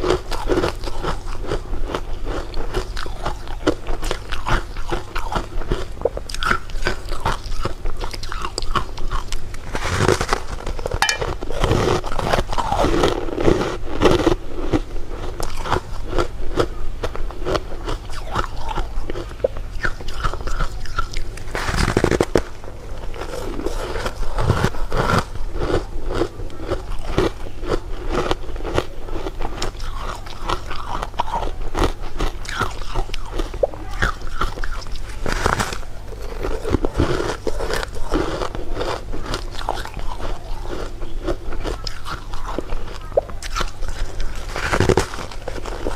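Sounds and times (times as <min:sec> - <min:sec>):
crunching candy: 0:00.0 - 0:45.9.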